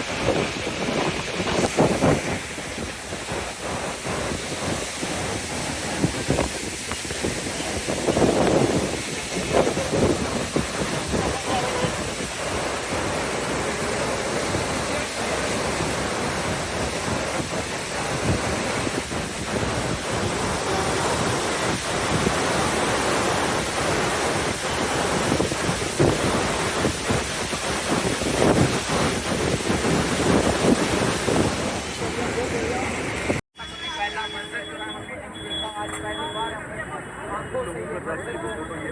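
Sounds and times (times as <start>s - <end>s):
river rushing: 0.0s - 33.4s
wind buffeting microphone: 0.0s - 33.4s.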